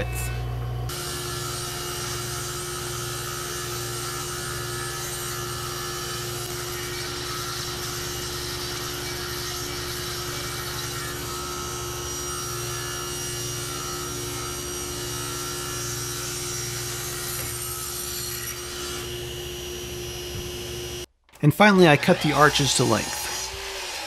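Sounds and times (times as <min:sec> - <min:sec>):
saw motor hum: 0:00.0 - 0:21.1, 0:21.8 - 0:24.0
table saw cutting wood: 0:00.0 - 0:24.0.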